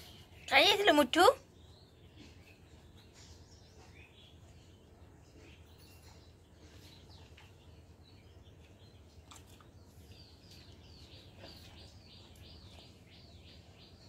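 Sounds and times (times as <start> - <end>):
faint bird chirping: 0.0 - 14.0.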